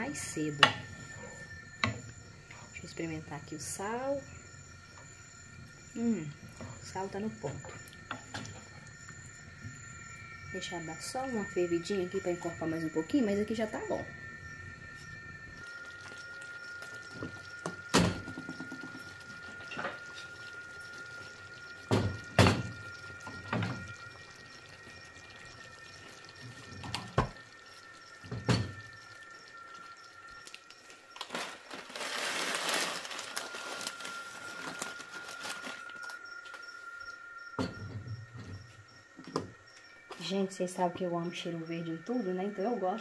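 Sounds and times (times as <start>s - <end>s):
steady high tone: 0.0s - 43.0s.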